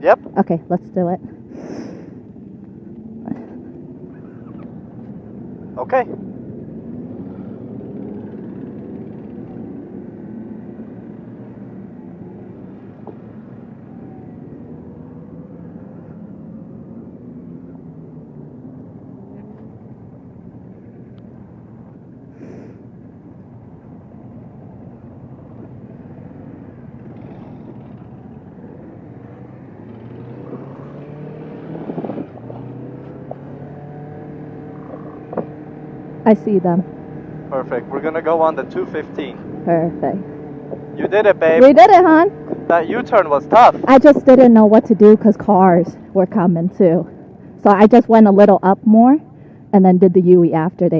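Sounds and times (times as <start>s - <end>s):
road noise: 0.0s - 50.9s
motorcycle engine running: 2.2s - 50.9s.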